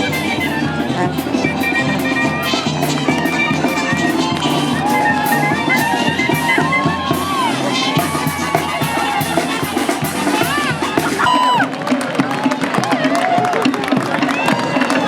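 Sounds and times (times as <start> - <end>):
parade music with steady beat: 0.0 - 13.0
crowd noise: 0.0 - 15.0.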